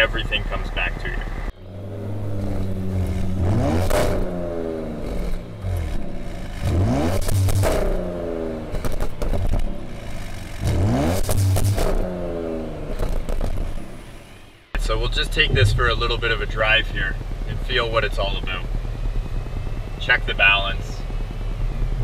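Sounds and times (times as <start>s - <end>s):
car engine revving: 0.0s - 22.0s
exhaust crackles: 0.0s - 22.0s.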